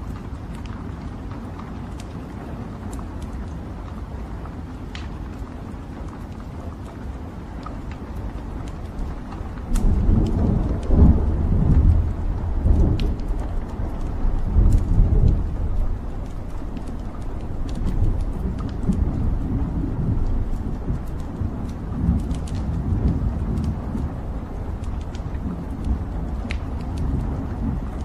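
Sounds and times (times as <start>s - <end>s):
burning logs crackling and popping: 0.0s - 28.0s
low rumble of fire flames: 0.0s - 28.0s.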